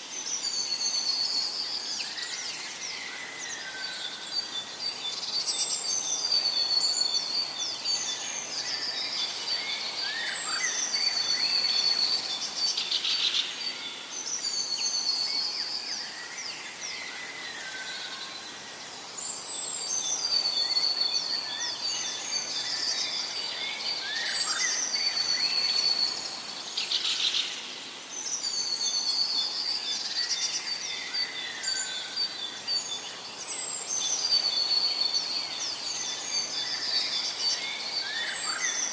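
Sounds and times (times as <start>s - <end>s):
background hiss: 0.0s - 38.9s
birds chirping and trilling: 0.1s - 38.9s.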